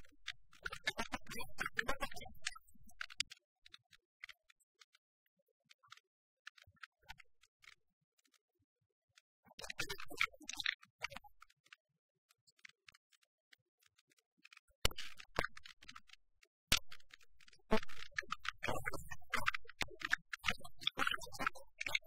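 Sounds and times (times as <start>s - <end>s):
faint clicks and crackle: 0.0s - 22.0s.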